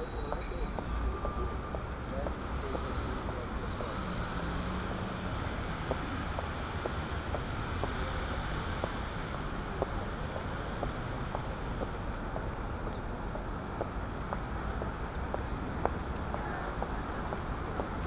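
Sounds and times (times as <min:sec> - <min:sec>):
traffic hum: 0:00.0 - 0:18.0.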